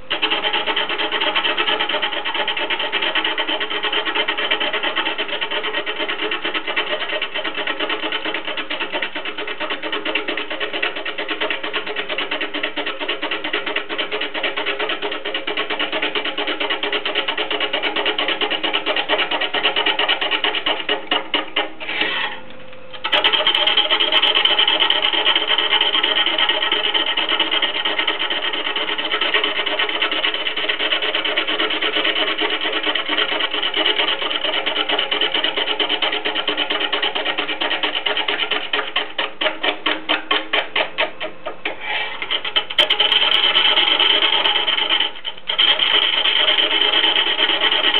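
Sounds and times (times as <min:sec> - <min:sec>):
lathe tool shaving wood: 0:00.0 - 0:22.4, 0:23.0 - 0:47.9.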